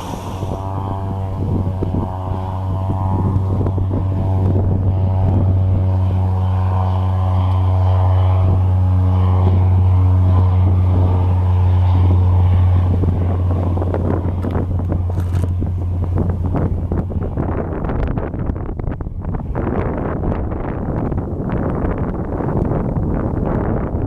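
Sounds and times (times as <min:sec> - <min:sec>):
turboprop engine droning: 0:00.0 - 0:24.0
wind noise on microphone: 0:00.0 - 0:24.0.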